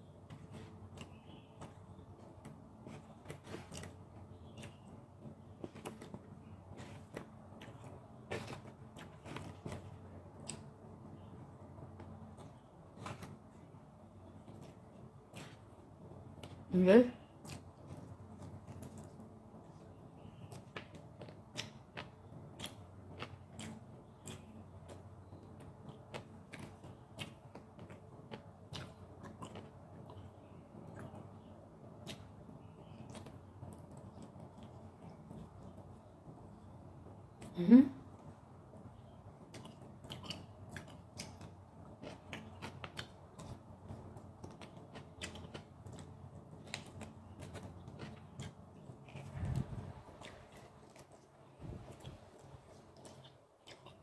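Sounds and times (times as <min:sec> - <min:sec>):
close-miked chewing: 0:00.0 - 0:37.5, 0:38.1 - 0:54.0.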